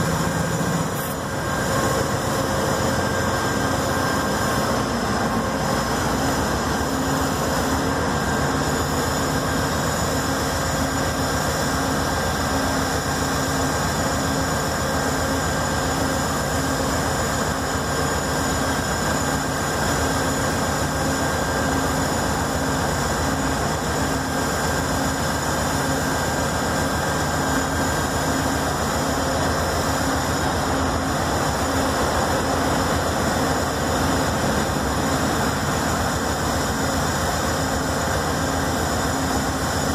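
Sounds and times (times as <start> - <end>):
diesel locomotive engine droning: 0.0 - 39.9.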